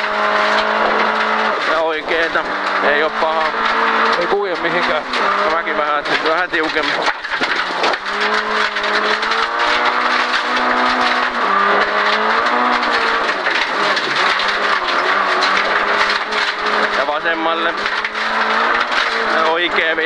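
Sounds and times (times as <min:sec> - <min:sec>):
gravel hiss and crackle: 0:00.0 - 0:20.0
rally car engine revving: 0:00.0 - 0:20.0.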